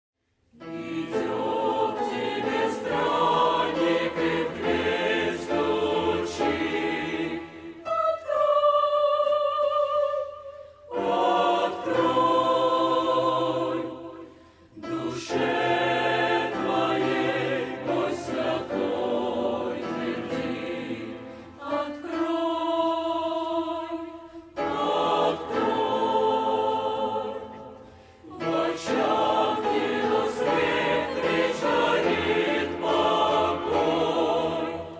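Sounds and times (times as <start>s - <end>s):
choir singing a hymn: 0.5s - 34.9s.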